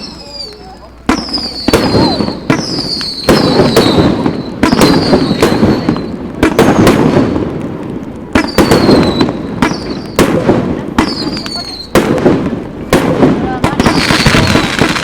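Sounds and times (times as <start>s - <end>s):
fireworks bursting with sharp bangs: 0.0s - 15.0s
rumbling crackle of fireworks: 0.0s - 15.0s.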